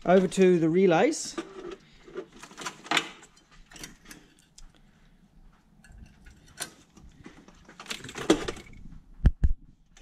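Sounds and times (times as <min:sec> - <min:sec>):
hands handling wiring and parts: 0:00.0 - 0:09.1.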